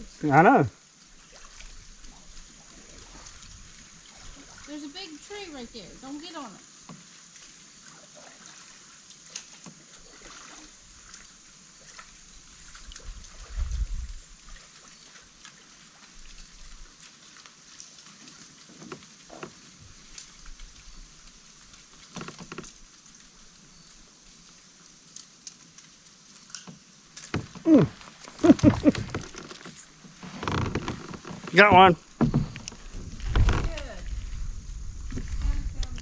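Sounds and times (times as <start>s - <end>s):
water trickling and sloshing: 0.0s - 36.0s.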